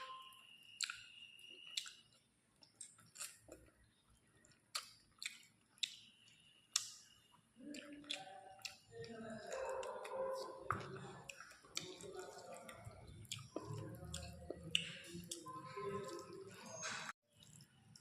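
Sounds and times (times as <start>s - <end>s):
close chewing mouth sounds: 0.8s - 3.7s, 4.4s - 7.0s, 7.6s - 16.8s.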